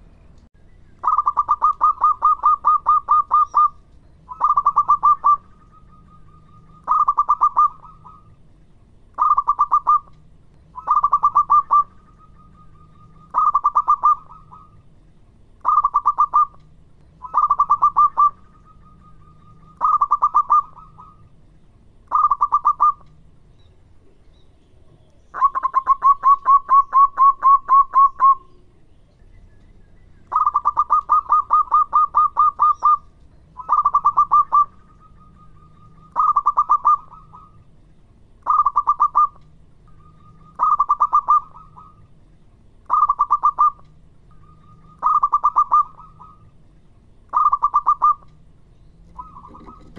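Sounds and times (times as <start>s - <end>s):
dove staccato cooing: 1.0s - 8.5s, 9.2s - 14.9s, 15.6s - 21.4s, 22.1s - 23.2s, 24.8s - 28.7s, 30.0s - 37.8s, 38.4s - 42.0s, 42.8s - 46.7s, 47.3s - 49.9s.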